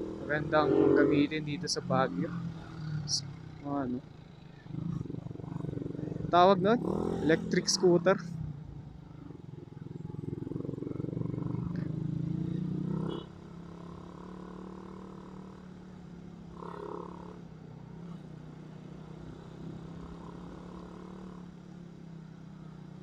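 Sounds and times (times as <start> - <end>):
motorcycle engine climbing hill: 0.0 - 23.0.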